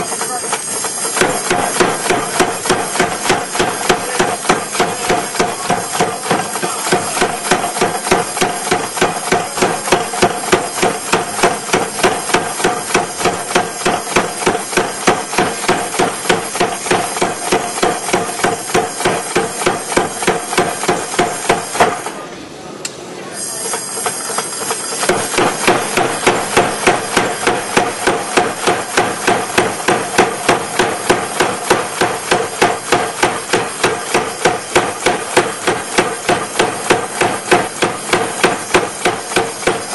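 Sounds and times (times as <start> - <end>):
hammers ringing on an anvil: 0.0 - 22.0, 23.7 - 39.9.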